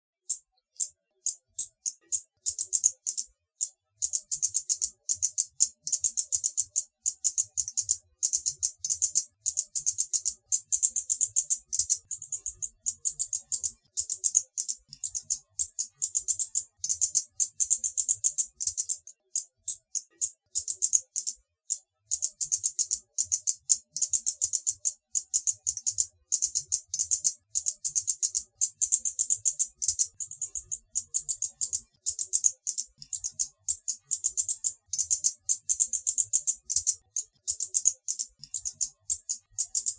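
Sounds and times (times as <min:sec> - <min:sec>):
hummingbird chittering: 0:00.3 - 0:39.9.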